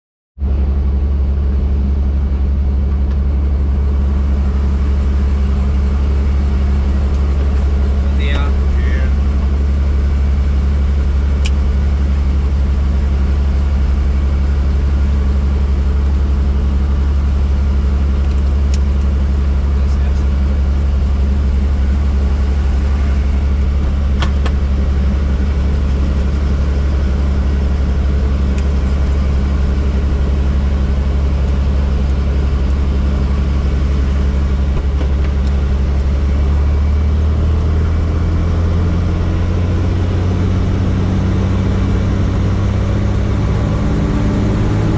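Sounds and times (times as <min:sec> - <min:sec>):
helicopter running: 0:02.2 - 0:44.9.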